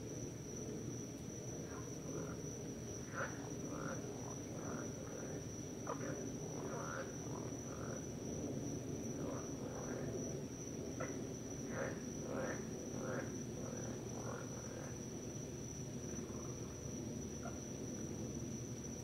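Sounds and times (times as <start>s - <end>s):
high-pitched insect trill: 0.0s - 19.0s
frogs chirping: 1.4s - 19.0s.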